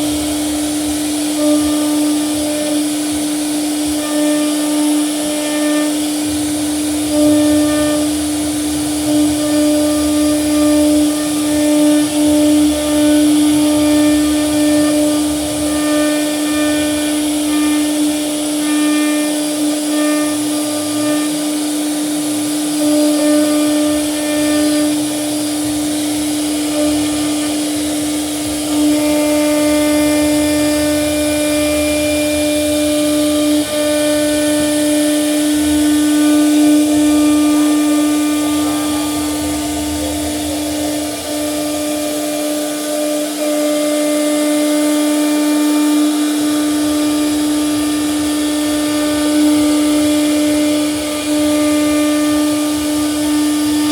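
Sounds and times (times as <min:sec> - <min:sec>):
bit cutting wood: 0:00.0 - 0:53.9
router spindle whine: 0:00.0 - 0:53.9.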